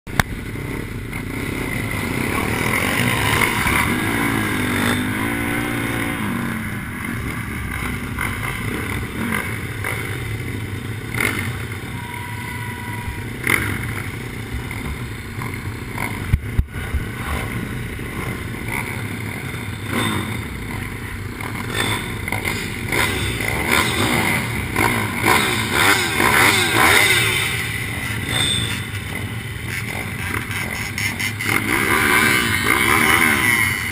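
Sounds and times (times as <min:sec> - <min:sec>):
pit bike engine revving: 0:00.1 - 0:33.9.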